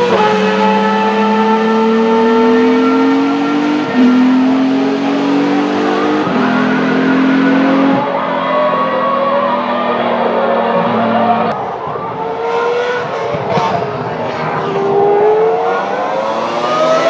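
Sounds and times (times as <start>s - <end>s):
racing car engine upshifting: 0.0s - 17.0s
second racing car engine: 0.0s - 17.0s.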